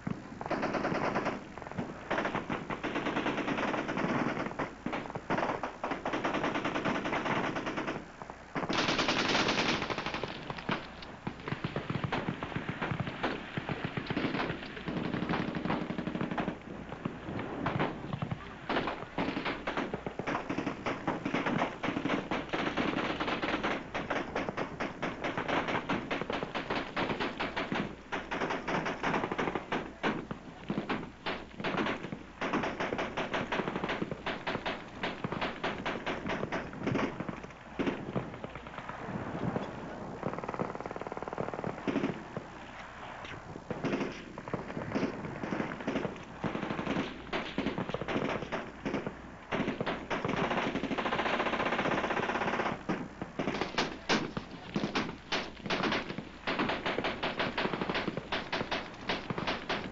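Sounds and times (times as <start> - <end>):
machine gun fire: 2.1 - 38.8, 43.7 - 59.9.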